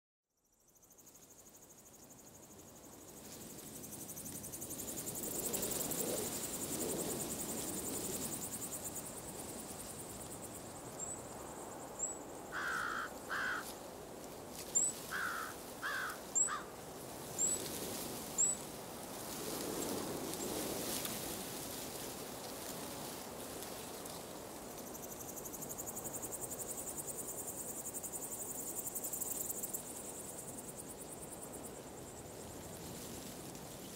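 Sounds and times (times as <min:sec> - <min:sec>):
insects chirring: 0:00.4 - 0:33.9.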